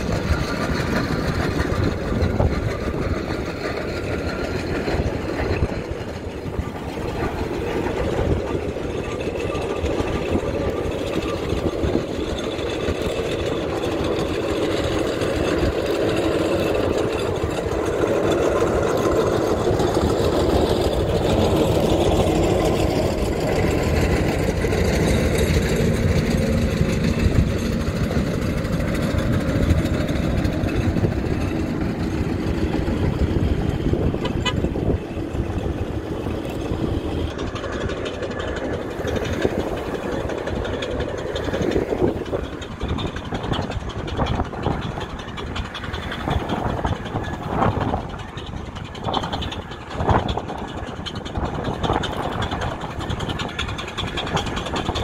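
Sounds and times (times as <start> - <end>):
steam road engine running: 0.0 - 55.0.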